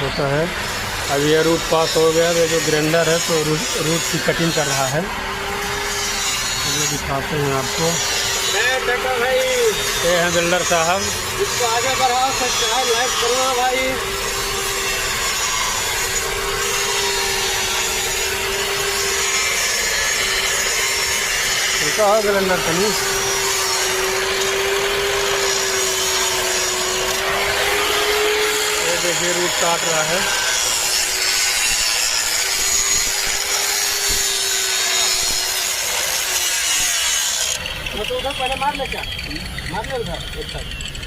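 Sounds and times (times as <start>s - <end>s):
angle grinder grinding metal: 0.0s - 41.0s.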